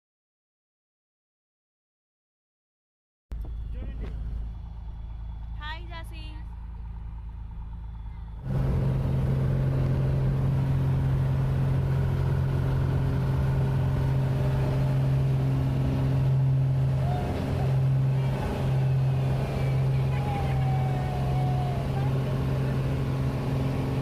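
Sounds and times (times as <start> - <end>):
helicopter engine and rotor drone: 3.3 - 24.0.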